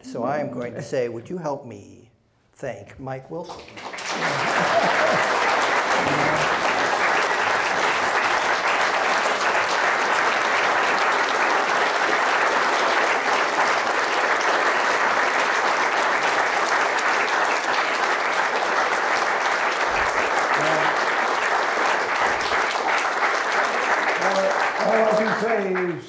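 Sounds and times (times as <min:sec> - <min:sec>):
audience applauding: 0:03.5 - 0:26.0.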